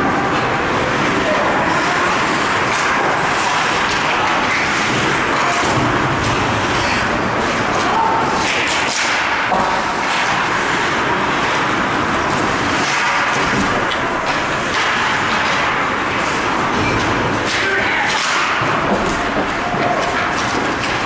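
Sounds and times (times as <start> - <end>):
arena crowd hubbub: 0.0 - 21.0.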